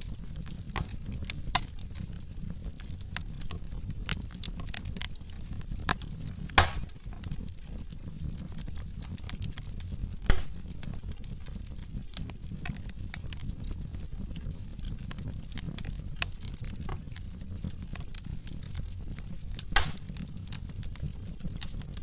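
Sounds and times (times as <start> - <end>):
log fire crackling: 0.0 - 22.0.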